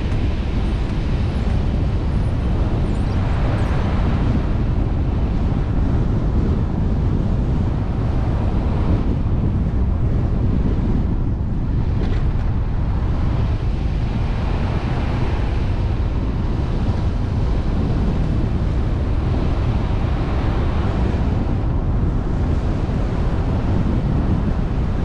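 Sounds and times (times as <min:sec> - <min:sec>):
road noise from moving vehicle: 0:00.0 - 0:25.0
wind buffeting microphone: 0:00.0 - 0:25.0.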